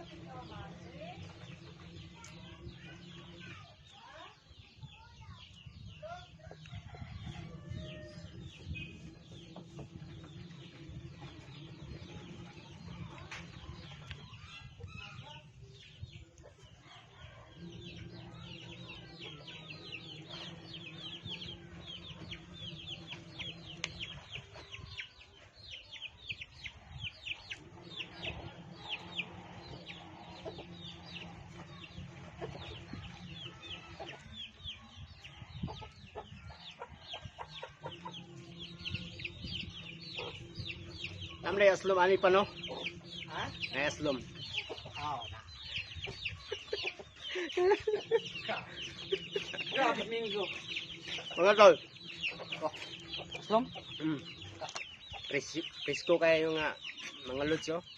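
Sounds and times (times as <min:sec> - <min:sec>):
chickens clucking and chirping: 0:00.0 - 0:57.9
steady low hum: 0:05.8 - 0:25.2, 0:26.0 - 0:55.8.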